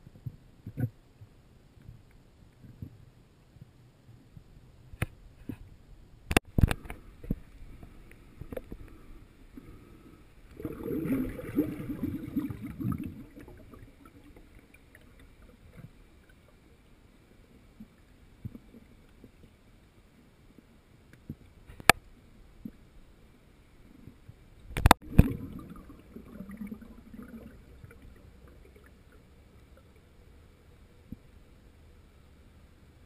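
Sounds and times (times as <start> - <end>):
muffled underwater water gurgling: 6.5 - 33.0.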